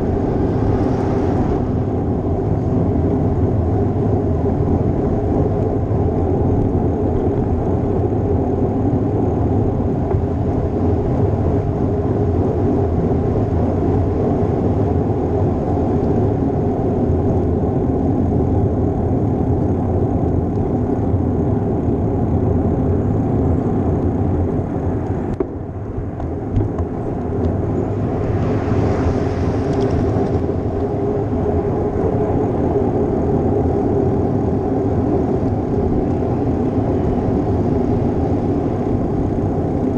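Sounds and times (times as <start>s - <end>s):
road and tyre noise: 0.0s - 39.9s
wind buffeting microphone: 0.0s - 39.9s.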